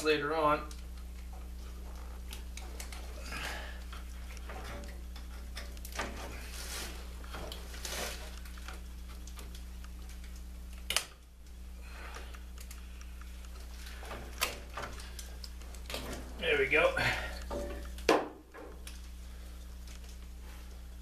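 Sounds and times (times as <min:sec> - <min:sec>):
steady low hum: 0:00.0 - 0:21.0
wiring rustling: 0:00.0 - 0:21.0.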